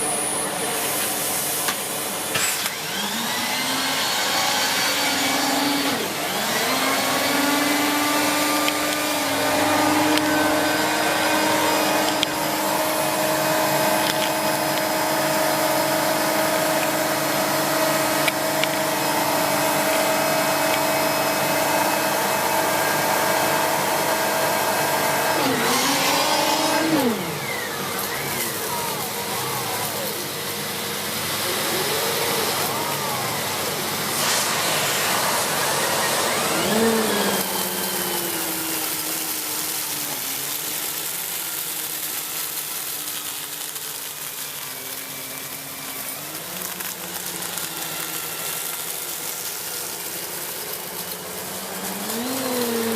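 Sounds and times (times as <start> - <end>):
vacuum cleaner on carpet: 0.0 - 52.9.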